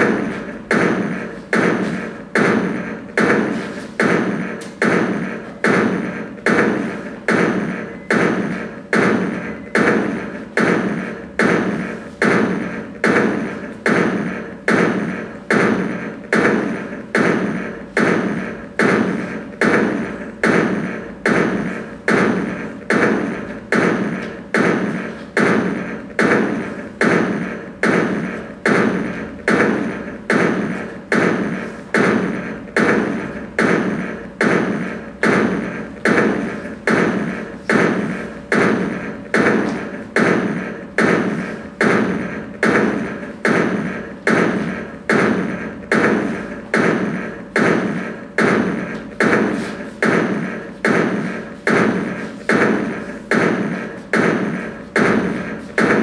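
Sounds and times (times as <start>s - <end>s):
repeating percussive hit: 0.0s - 56.0s.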